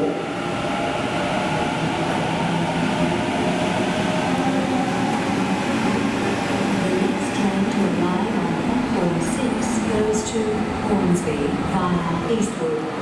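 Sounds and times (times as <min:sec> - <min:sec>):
train humming with held tones: 0:00.0 - 0:13.0.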